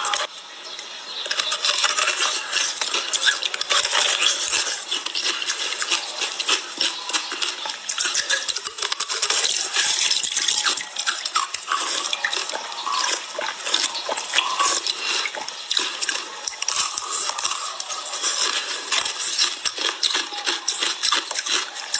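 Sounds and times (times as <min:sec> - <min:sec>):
ice being chewed: 0:00.0 - 0:00.3, 0:01.2 - 0:21.9.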